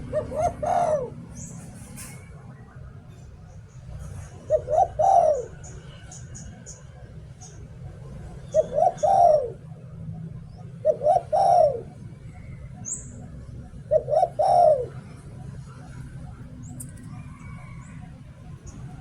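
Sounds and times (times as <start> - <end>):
dove cooing: 0.0 - 2.2, 4.0 - 6.0, 7.5 - 19.0.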